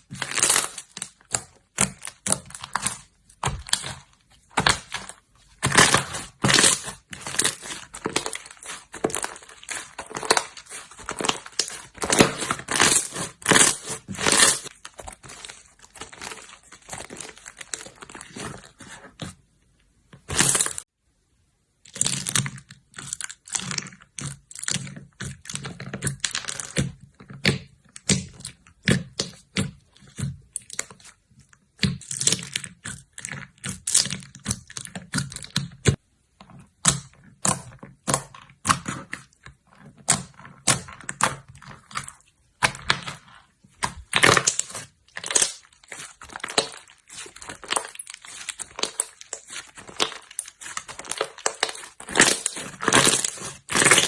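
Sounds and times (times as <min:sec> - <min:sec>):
slime crackling and popping: 0:00.0 - 0:19.3, 0:20.2 - 0:20.9, 0:21.9 - 0:36.0, 0:36.6 - 0:54.0.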